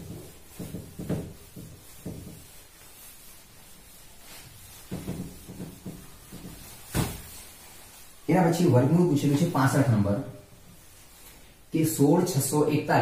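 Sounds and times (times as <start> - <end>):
duster wiping whiteboard: 0.0 - 12.6.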